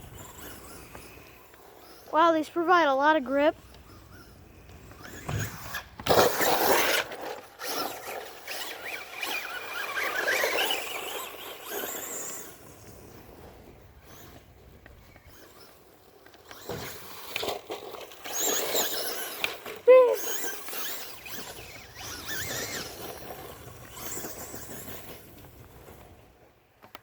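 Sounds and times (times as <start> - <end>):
rc truck motor whining: 0.0 - 27.0
tyres scrabbling over ground: 0.0 - 27.0.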